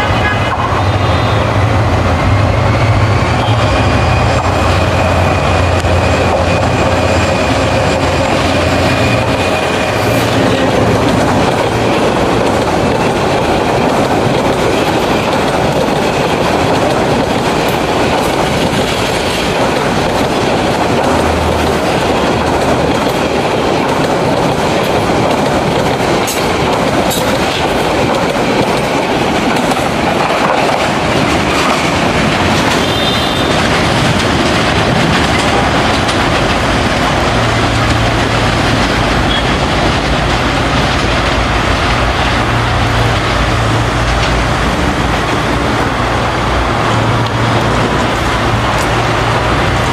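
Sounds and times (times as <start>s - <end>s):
train wheels clattering over rail joints: 4.0s - 49.9s.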